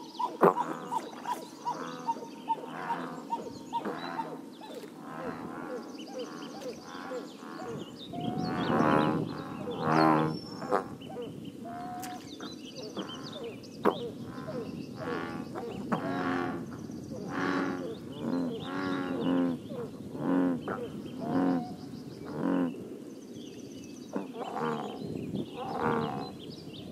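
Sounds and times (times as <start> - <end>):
bullfrogs croaking: 0.0 - 12.2, 12.9 - 22.8, 24.1 - 26.4.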